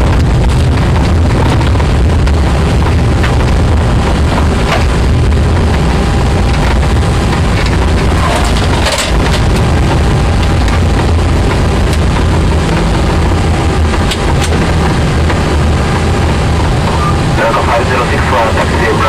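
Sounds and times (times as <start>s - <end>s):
aircraft cockpit rumble: 0.0s - 19.0s.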